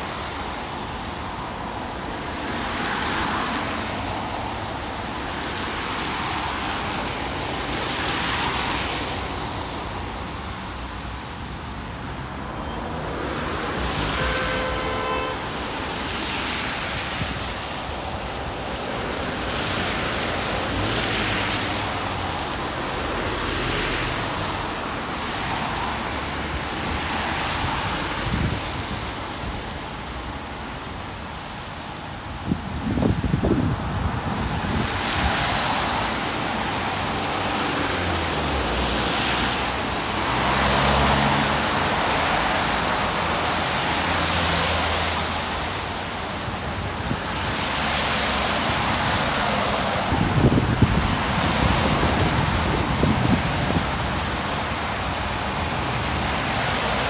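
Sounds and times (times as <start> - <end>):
traffic passing: 0.0 - 57.0.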